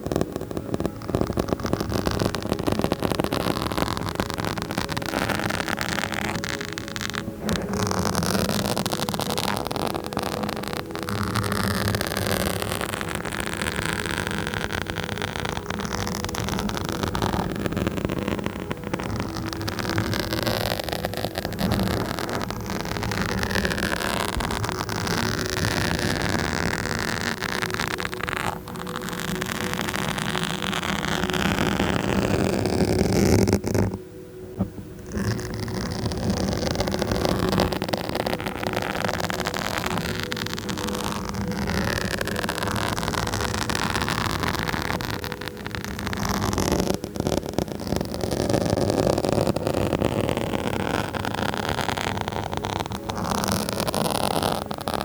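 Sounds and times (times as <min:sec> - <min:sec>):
scratching on microphone: 0:00.0 - 0:55.0.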